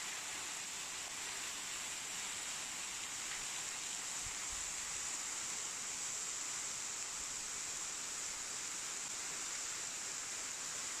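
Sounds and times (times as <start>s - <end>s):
waterfall splashing: 0.0s - 11.0s.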